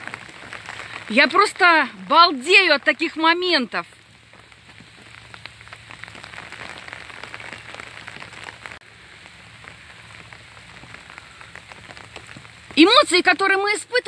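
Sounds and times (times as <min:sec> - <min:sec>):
heavy rain on leaves: 0:00.0 - 0:14.0
raindrops ticking: 0:00.0 - 0:14.0.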